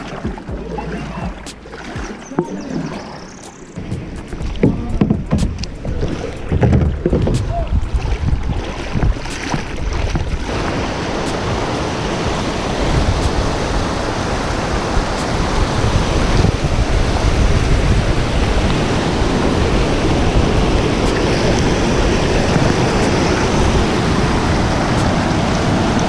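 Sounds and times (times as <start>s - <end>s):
water rushing over rocks: 0.0s - 26.0s
water splashes: 0.0s - 26.0s.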